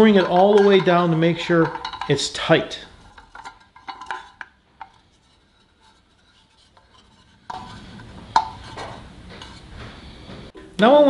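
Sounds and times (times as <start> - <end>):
metal rubbing and scraping: 0.0 - 10.6.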